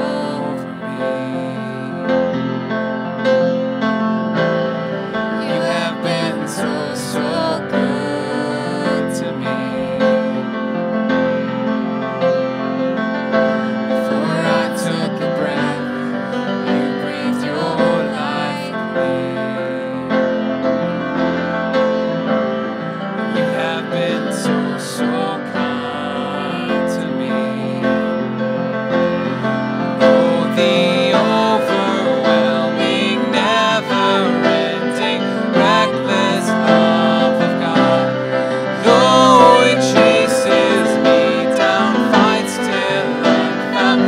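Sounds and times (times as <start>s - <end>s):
person singing: 0.0s - 3.4s, 5.0s - 11.5s, 13.3s - 21.4s, 23.1s - 44.0s
grand piano: 0.0s - 44.0s
violin playing: 4.4s - 20.1s, 23.2s - 44.0s.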